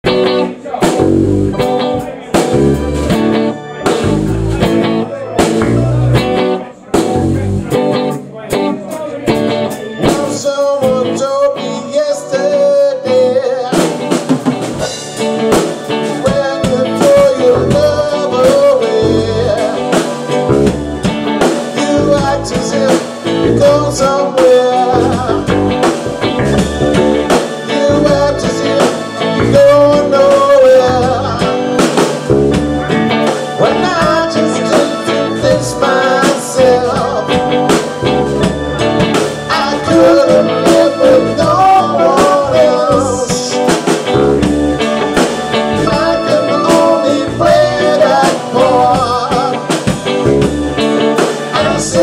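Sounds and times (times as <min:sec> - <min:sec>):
drum kit: 0:00.0 - 0:11.5, 0:13.2 - 0:52.0
bass guitar: 0:00.0 - 0:52.0
electric guitar: 0:00.0 - 0:52.0
man singing: 0:03.7 - 0:26.0, 0:27.3 - 0:32.1, 0:33.2 - 0:37.7, 0:39.4 - 0:44.2, 0:45.5 - 0:50.5, 0:51.2 - 0:52.0.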